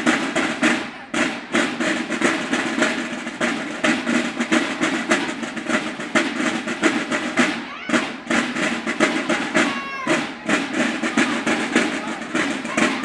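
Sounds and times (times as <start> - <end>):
snare drums march cadence: 0.0 - 13.0.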